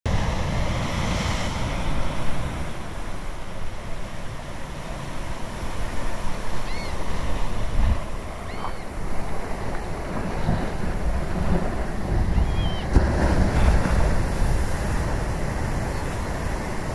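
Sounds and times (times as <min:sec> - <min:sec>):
ocean surf breaking on beach: 0:00.1 - 0:16.9.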